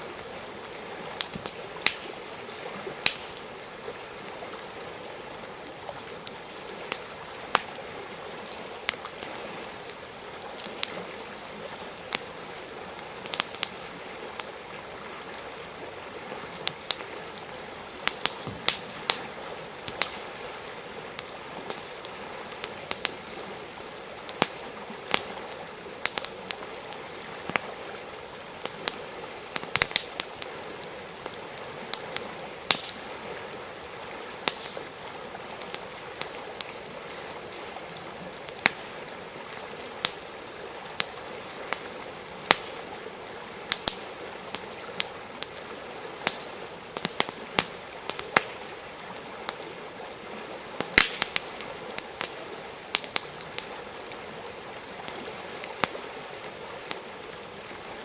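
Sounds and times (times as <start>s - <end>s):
campfire crackling and popping: 0.0s - 58.0s
steady rushing hiss: 0.0s - 58.0s.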